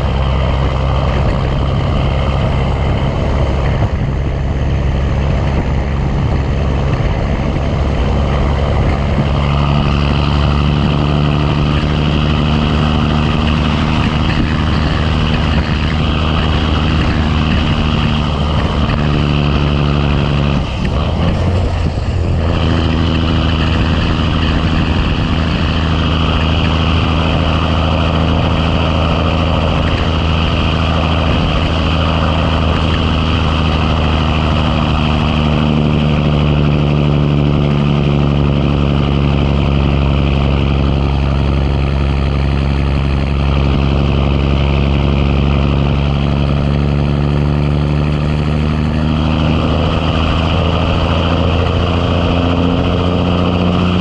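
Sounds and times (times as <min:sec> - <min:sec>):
truck diesel engine pulling under load: 0:00.0 - 0:54.0.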